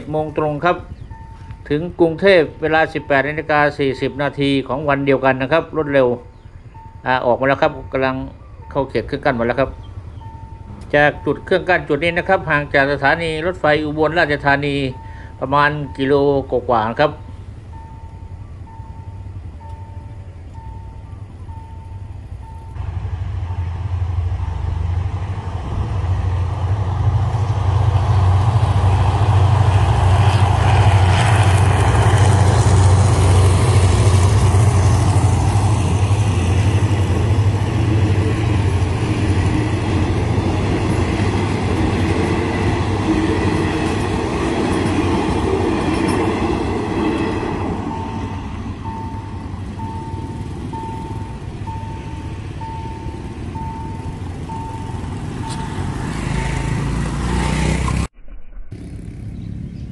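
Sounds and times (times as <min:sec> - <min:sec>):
crossing warning beeper: 0:00.0 - 0:25.8, 0:31.2 - 0:57.0
train wheels on rails: 0:00.0 - 0:59.2
diesel locomotive engine hum: 0:00.0 - 0:59.9.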